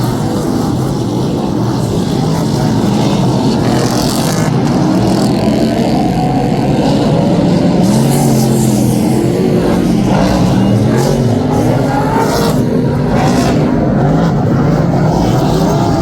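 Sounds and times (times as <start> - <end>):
race car engines running loudly: 0.0 - 16.0.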